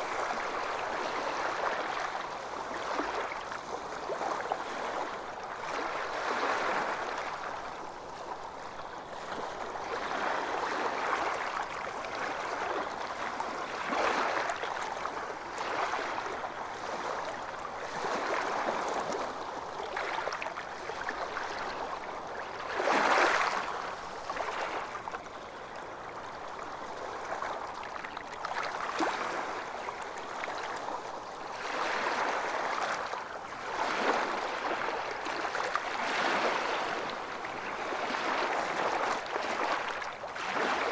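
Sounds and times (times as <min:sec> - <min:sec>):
water lapping and splashing: 0:00.0 - 0:40.9.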